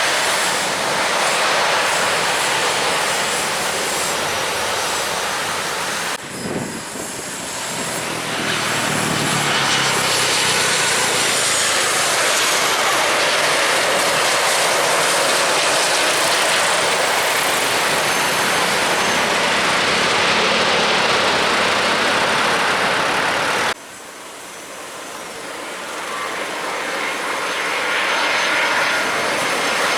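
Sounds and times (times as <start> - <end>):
jet airliner passing: 0.0 - 23.8, 24.7 - 29.9.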